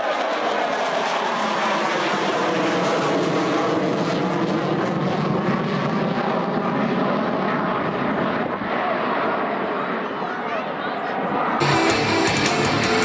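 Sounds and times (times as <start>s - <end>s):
airplane engine drone: 0.0s - 10.4s, 11.1s - 13.0s.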